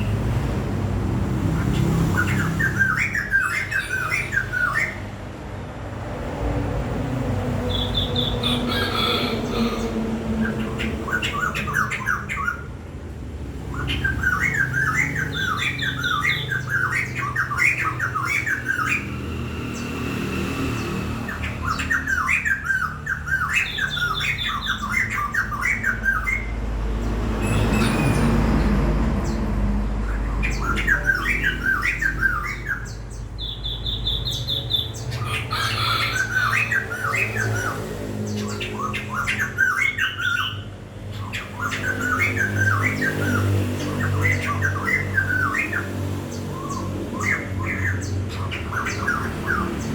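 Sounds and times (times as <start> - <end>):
songbird chirping: 1.4 - 5.1, 7.2 - 12.7, 13.5 - 49.9.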